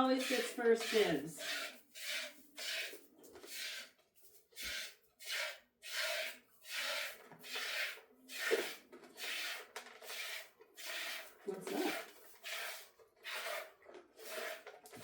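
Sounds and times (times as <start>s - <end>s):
milk squirting into pail: 0.0s - 15.0s.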